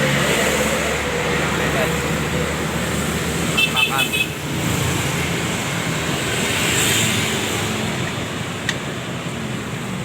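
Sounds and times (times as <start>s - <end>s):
passing road traffic: 0.0s - 10.0s.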